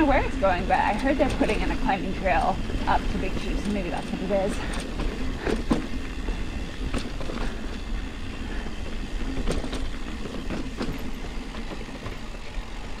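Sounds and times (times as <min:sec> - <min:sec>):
bike clacking over bumps: 0:00.0 - 0:13.0
bike tyre rumble on dirt: 0:00.0 - 0:13.0.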